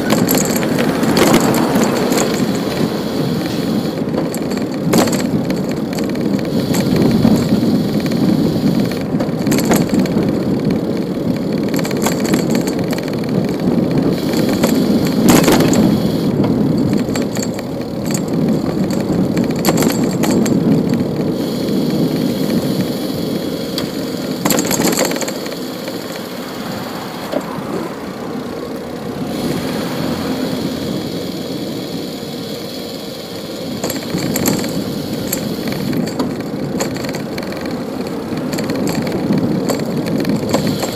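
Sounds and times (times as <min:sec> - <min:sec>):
bicycle road noise: 0:00.0 - 0:40.9
car traffic: 0:00.0 - 0:40.9
sharp clicks and rattles: 0:00.0 - 0:40.9.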